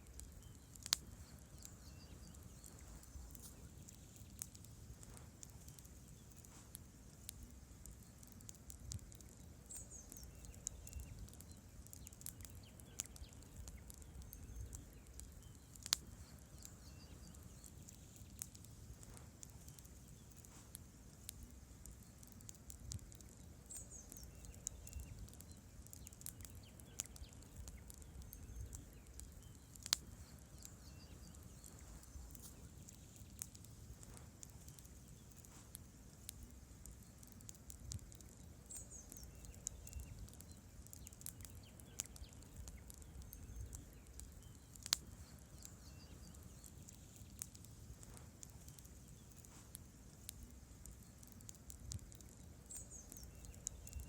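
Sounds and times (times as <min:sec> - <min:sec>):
fire crackling: 0:00.0 - 0:54.0
low rumble of campfire flame: 0:00.0 - 0:54.0
sharp fire pops: 0:00.0 - 0:54.0.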